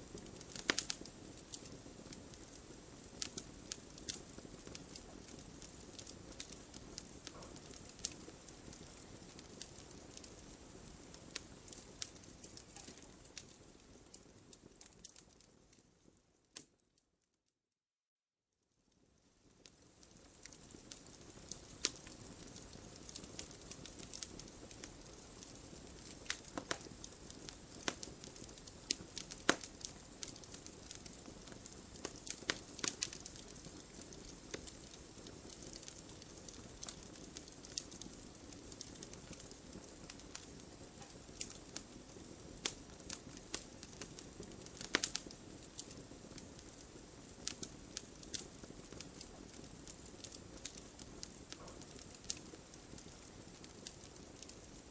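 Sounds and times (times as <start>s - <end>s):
soft fire hiss: 0.0s - 16.8s, 18.7s - 54.9s
wood fire crackling: 0.0s - 16.9s, 18.9s - 54.9s.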